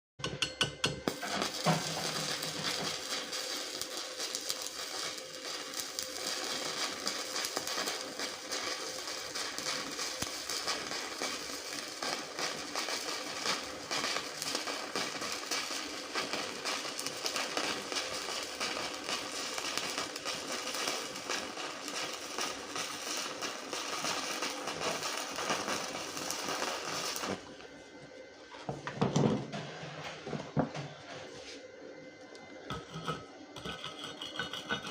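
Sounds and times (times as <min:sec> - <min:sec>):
welding arc crackling: 0:01.1 - 0:27.5, 0:32.7 - 0:34.9.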